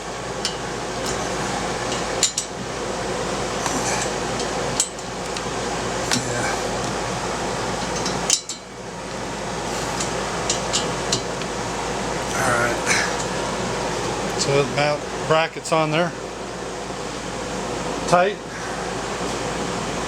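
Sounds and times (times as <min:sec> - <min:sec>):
air conditioning unit running: 0:00.0 - 0:20.0.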